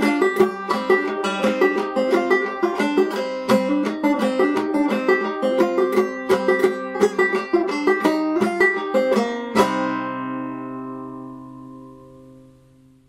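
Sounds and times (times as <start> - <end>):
banjo plucked and strummed: 0.0 - 13.0.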